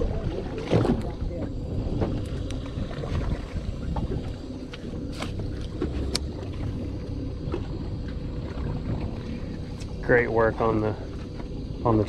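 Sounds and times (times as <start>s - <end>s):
faint steady hum: 0.0s - 12.0s
wind and water rumble: 0.0s - 12.0s.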